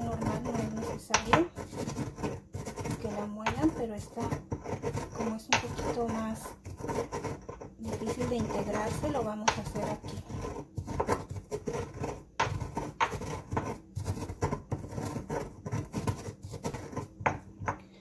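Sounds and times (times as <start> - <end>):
stone pestle grinding salt: 0.0 - 18.0.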